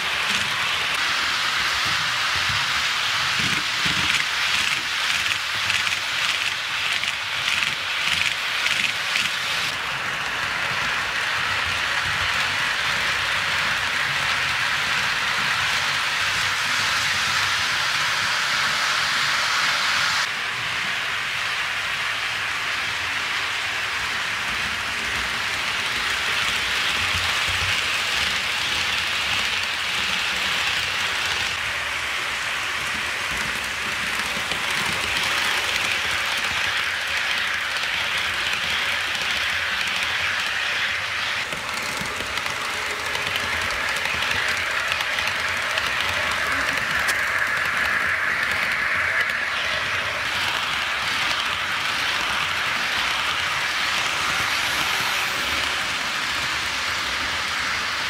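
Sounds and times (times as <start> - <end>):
model train wheels rumbling on rails: 0.0 - 58.0.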